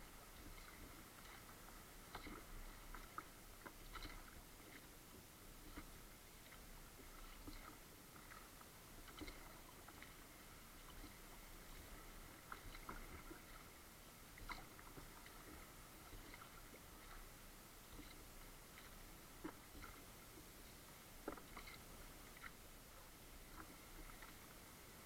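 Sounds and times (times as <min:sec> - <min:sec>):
kayak paddle splashing: 0:00.0 - 0:25.0
quiet hiss: 0:00.0 - 0:25.0.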